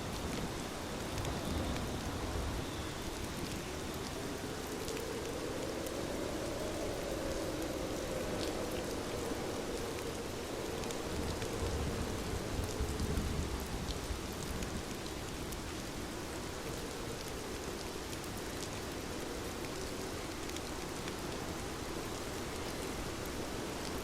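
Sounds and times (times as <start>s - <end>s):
rain on a window: 0.0s - 24.0s.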